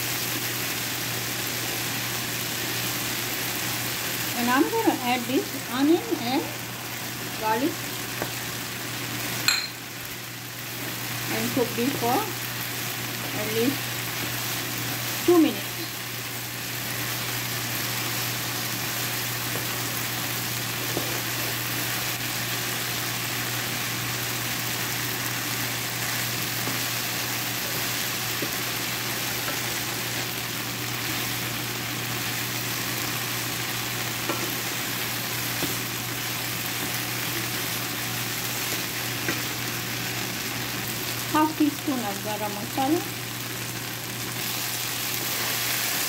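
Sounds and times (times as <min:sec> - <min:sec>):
vegetables sizzling in frying pan: 0:00.0 - 0:46.0.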